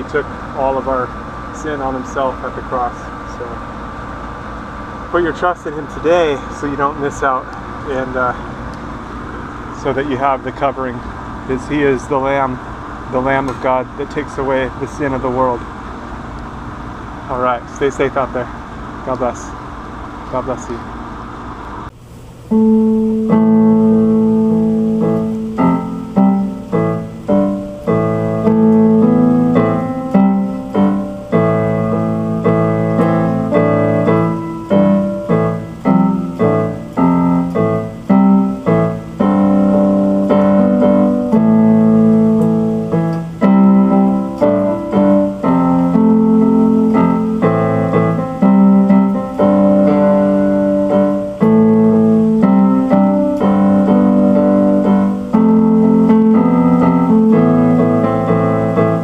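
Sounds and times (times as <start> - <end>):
piano notes and chords: 0.0 - 18.4, 22.5 - 59.0.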